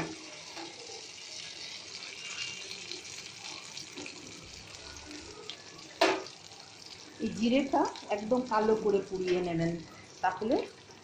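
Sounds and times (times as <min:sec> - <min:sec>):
seeds sizzling in hot oil: 0:00.0 - 0:11.0.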